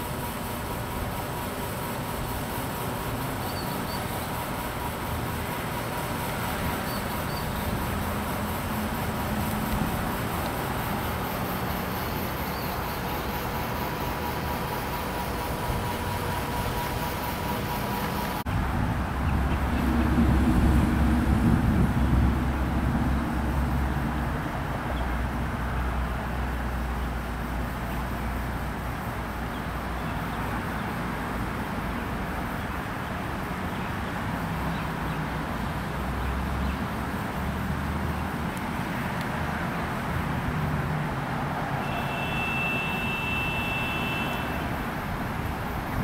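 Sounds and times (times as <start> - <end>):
vehicle rumble: 1.3 - 46.0.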